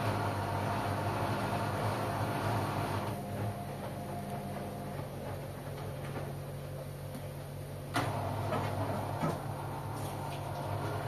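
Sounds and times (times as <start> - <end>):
washing machine motor hum: 0.0 - 11.0.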